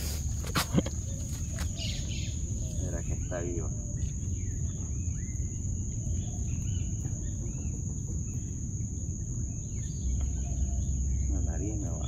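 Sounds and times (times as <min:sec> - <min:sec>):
insects trilling: 0:00.0 - 0:12.0
low rumbling background: 0:00.0 - 0:12.0.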